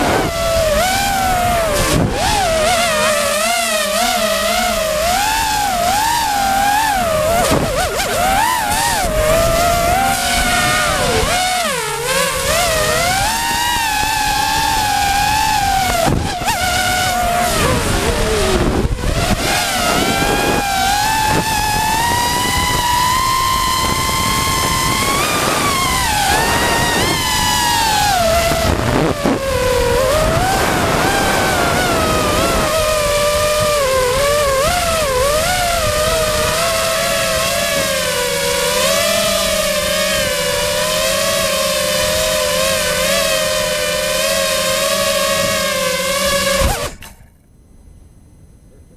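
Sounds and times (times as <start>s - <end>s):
wind noise: 0.0s - 47.1s
drone motors and propellers whining: 0.0s - 48.9s.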